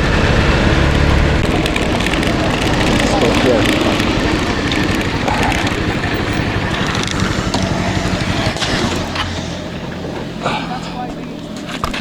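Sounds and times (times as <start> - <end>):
motor scooter engine: 0.0 - 12.0
wind buffeting microphone: 0.0 - 12.0.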